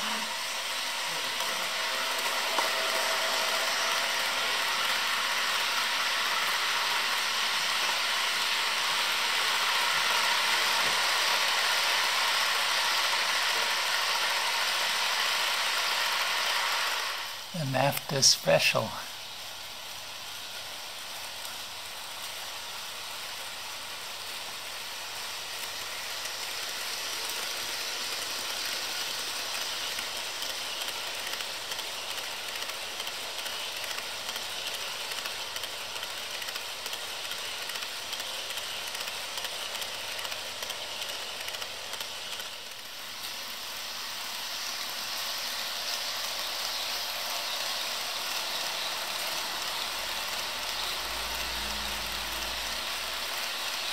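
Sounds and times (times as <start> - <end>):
model train wheels rattling: 0.0 - 17.5, 19.1 - 53.9.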